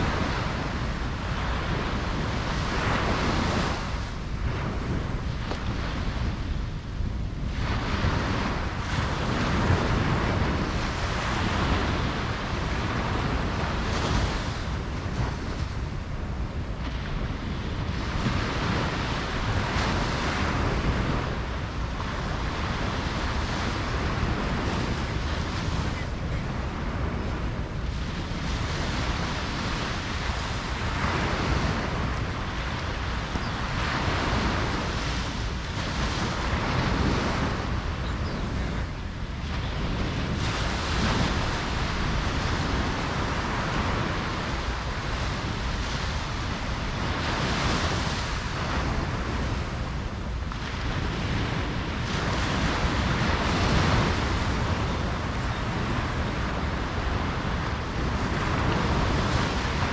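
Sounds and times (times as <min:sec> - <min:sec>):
ocean waves breaking: 0:00.0 - 0:59.9
wind rumble on microphone: 0:00.0 - 0:59.9.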